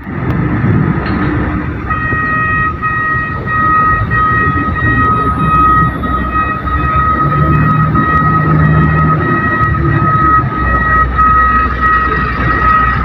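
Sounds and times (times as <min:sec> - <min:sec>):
diesel engine rumbling: 0:00.0 - 0:13.0
electronic warning alarm beeping: 0:01.9 - 0:13.0.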